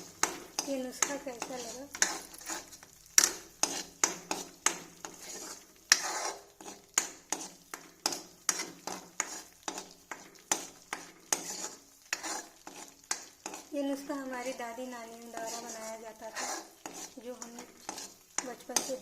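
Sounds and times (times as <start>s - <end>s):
metal spoon scraping a pan: 0.0s - 19.0s.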